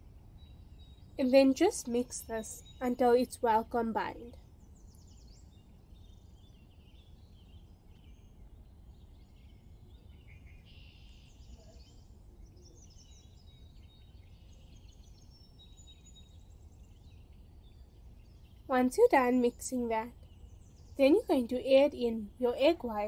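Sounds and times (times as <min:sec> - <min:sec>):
faint birdsong: 0:00.0 - 0:23.0
low steady background rumble: 0:00.0 - 0:23.0.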